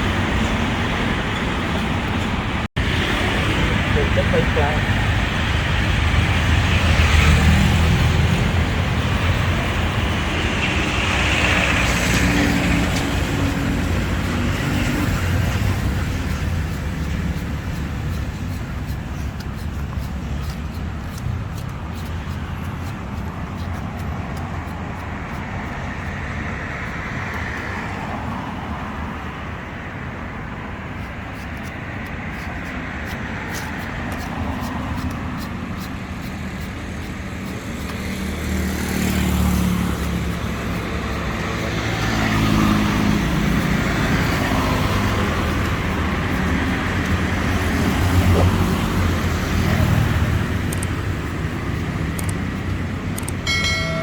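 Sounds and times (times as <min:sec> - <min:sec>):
low traffic rumble: 0:00.0 - 0:54.0
vehicle engines passing: 0:00.0 - 0:54.0.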